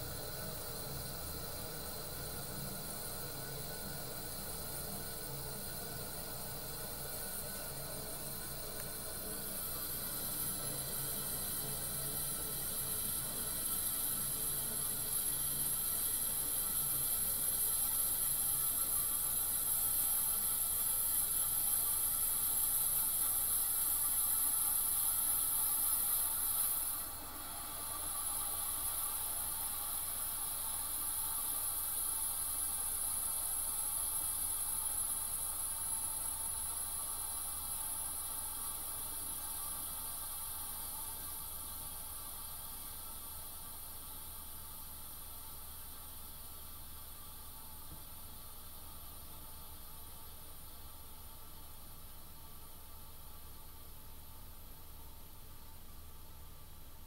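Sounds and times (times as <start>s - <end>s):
air conditioner compressor humming: 0.0s - 57.0s.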